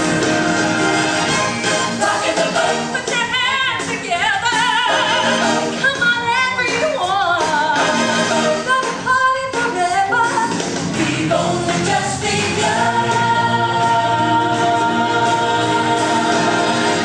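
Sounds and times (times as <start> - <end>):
instrumental accompaniment: 0.0 - 17.0
singers with vibrato: 0.5 - 17.0.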